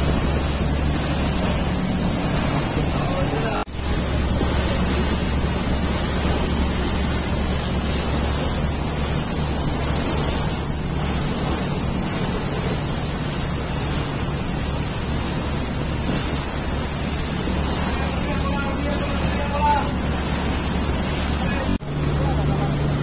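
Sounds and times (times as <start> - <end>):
boat engine drone: 0.0 - 23.0
rushing water: 0.0 - 23.0.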